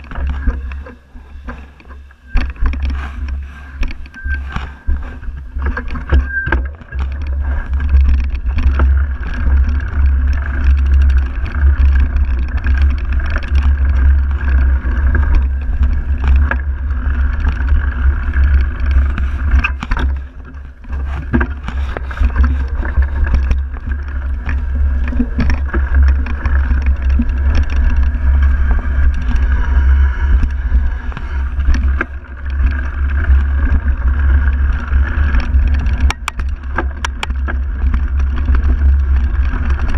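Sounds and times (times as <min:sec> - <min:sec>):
bike knocks and rattles: 0:00.0 - 0:39.9
bike trail rumble: 0:00.0 - 0:39.9
wind noise: 0:00.0 - 0:39.9.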